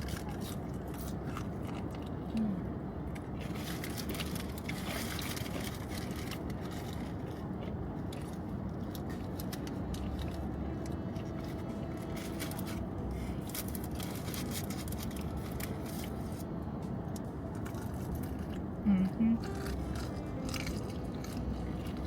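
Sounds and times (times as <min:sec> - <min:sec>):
crunchy chewing: 0:00.0 - 0:22.0
low background hum: 0:00.0 - 0:22.0.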